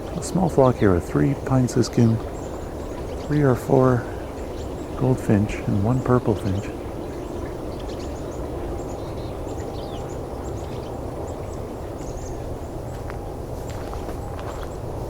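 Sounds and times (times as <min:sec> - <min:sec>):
finches chirping and twittering: 0:00.0 - 0:15.0
low rushing background: 0:00.0 - 0:15.0.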